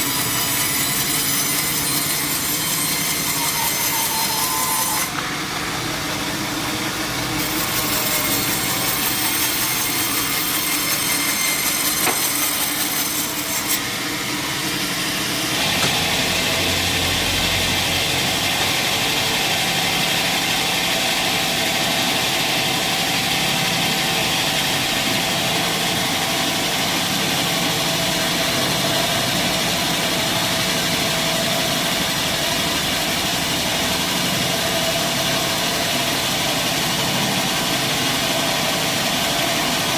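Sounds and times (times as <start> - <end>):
saw cutting through wood: 0.0 - 39.9
sawmill machine hum: 0.0 - 39.9.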